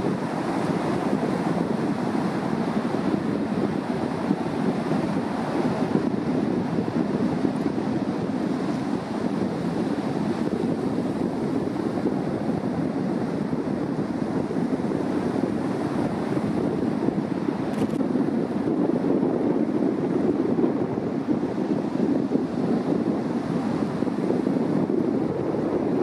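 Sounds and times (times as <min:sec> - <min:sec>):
surf breaking on shore: 0:00.0 - 0:26.0
wind: 0:00.0 - 0:26.0.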